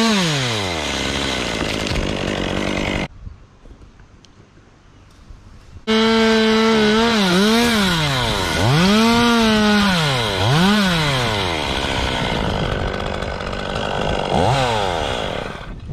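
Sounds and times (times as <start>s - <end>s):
chainsaw cutting wood: 0.0s - 3.1s, 5.9s - 15.8s.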